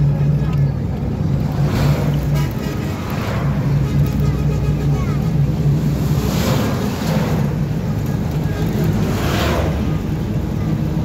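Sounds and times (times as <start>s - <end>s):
road noise: 0.0s - 11.0s
vehicles rushing past: 0.0s - 11.0s.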